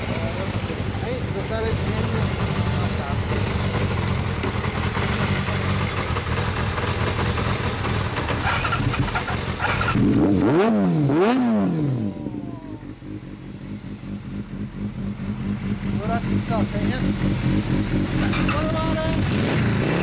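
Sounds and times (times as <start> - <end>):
motorcycle engine idling: 0.0 - 10.2, 11.9 - 20.0.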